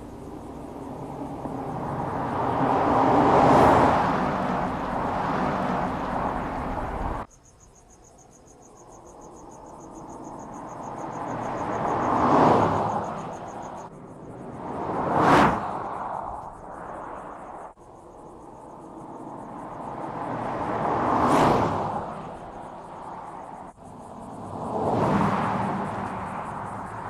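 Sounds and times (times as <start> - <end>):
car passing at speed: 0.0 - 7.3, 9.2 - 27.0
insects chirping: 0.0 - 27.0.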